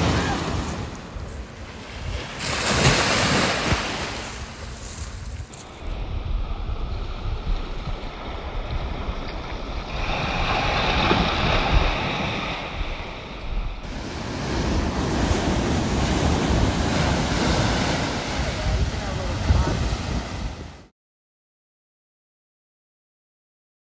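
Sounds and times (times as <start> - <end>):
surf washing in: 0.0 - 20.9
wind buffeting microphone: 0.0 - 20.9.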